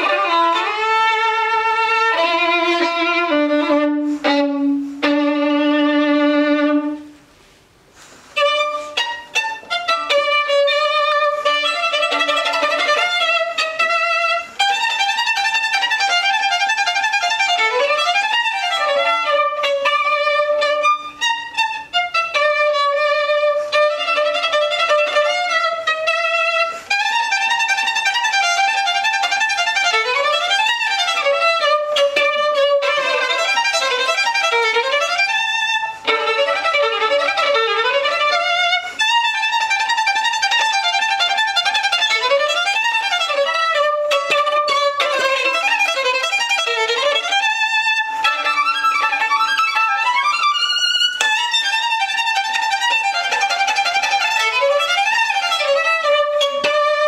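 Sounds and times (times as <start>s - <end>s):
violin playing: 0.0s - 7.6s, 8.2s - 57.0s.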